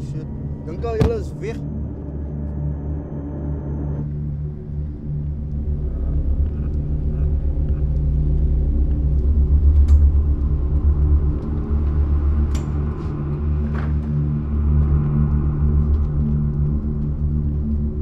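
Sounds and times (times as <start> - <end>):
low rumbling drone: 0.0 - 18.0.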